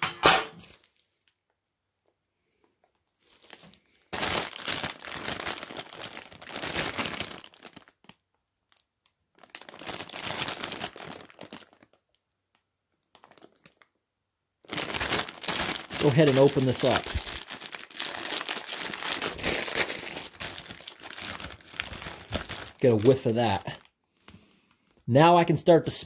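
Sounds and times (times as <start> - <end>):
plastic candy bag crinkling: 2.5 - 14.0, 14.6 - 25.1.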